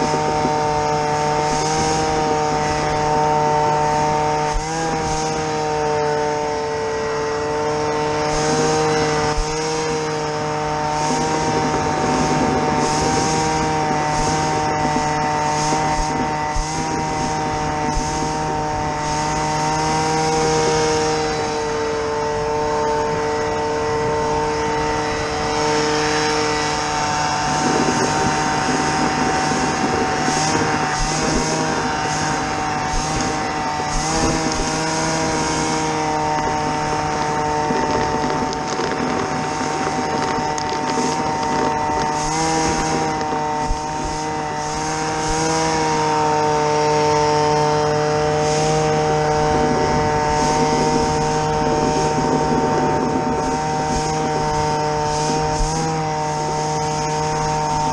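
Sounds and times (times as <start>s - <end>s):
small engine running: 0.0s - 57.9s
hiss of air: 7.0s - 45.6s, 46.4s - 57.9s.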